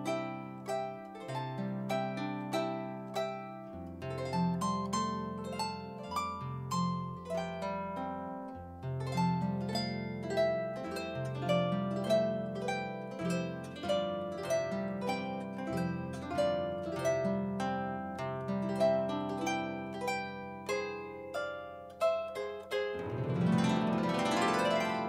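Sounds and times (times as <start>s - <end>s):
harp melody: 0.0s - 25.0s.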